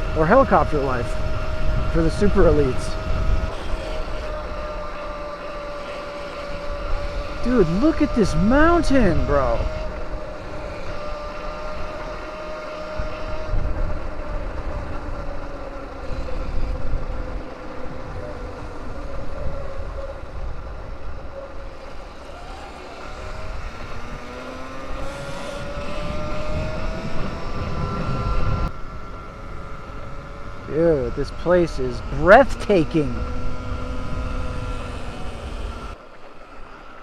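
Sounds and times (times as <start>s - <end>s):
wind rumble on microphone: 0.0s - 36.0s
electric motor whining: 0.0s - 37.0s.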